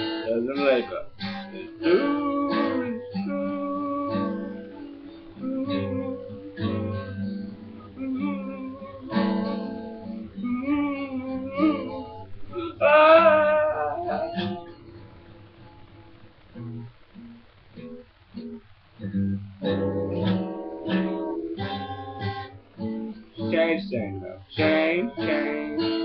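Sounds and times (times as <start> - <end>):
person singing: 0.0 - 15.3, 19.6 - 22.6, 23.4 - 26.0
guitar strummed and picked: 0.0 - 26.0.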